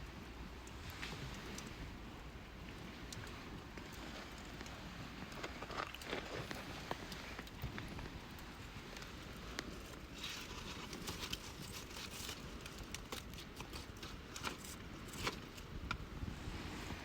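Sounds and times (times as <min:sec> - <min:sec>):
campfire crackling: 0:00.0 - 0:16.7.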